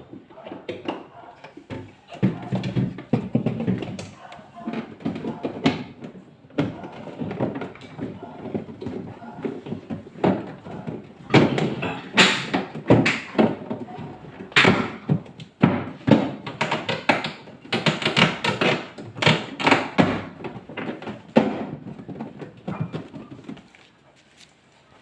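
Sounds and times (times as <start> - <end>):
irregular knocks and thuds: 0.1 - 24.0.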